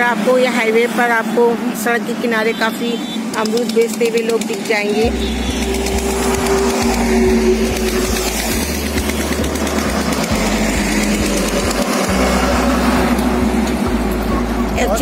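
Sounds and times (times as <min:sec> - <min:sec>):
highway traffic passing: 0:00.0 - 0:15.0.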